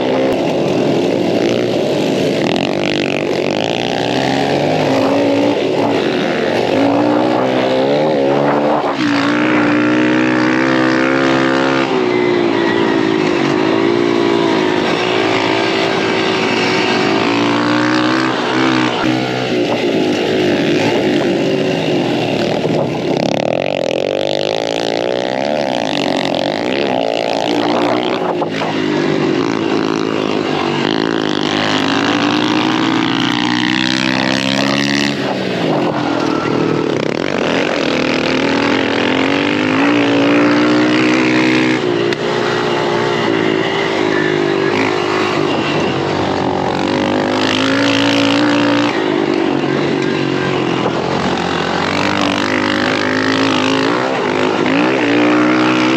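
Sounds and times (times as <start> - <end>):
dirt bike engine revving: 0.0 - 55.9
steady rushing noise: 0.0 - 55.9.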